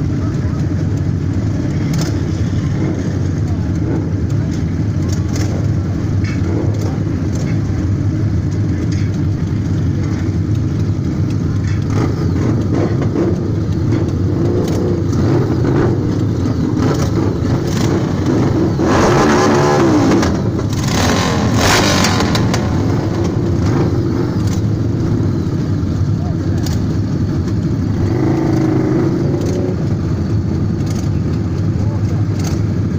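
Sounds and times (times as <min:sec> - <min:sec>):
motorcycle engines idling: 0:00.0 - 0:32.9
motorcycle throttle revs: 0:00.3 - 0:32.9.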